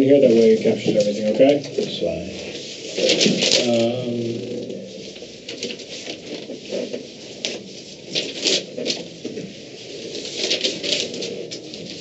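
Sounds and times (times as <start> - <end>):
chair and foot shuffling: 0.0 - 12.0
paper rustling: 0.0 - 12.0.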